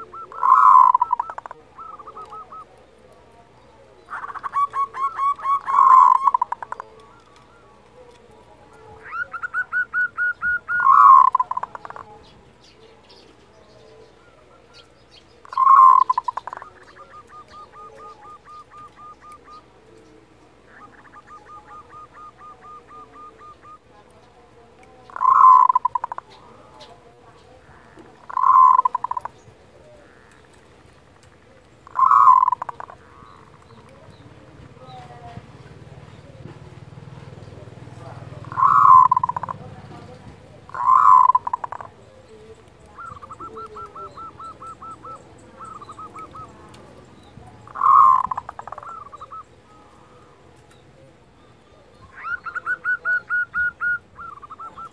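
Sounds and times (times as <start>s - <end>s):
loud wavering dove call: 0.0s - 2.9s, 4.0s - 12.3s, 14.1s - 24.0s, 25.0s - 30.6s, 31.6s - 54.9s.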